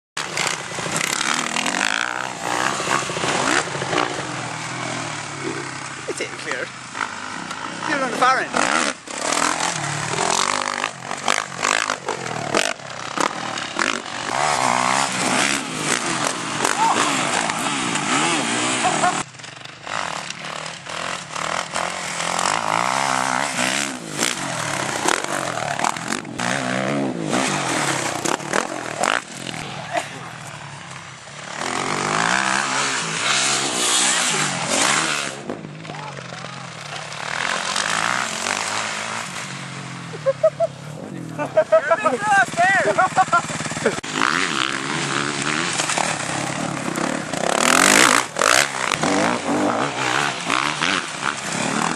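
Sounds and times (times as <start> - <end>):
motocross bike engine revving: 0.2 - 51.9.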